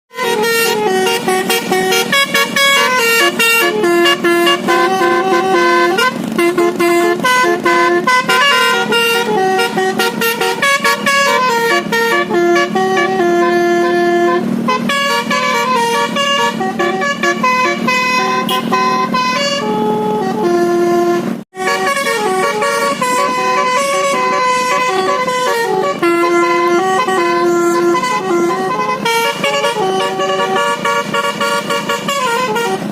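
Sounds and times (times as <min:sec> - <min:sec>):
multi-tone bus horn melody: 0:00.1 - 0:32.9.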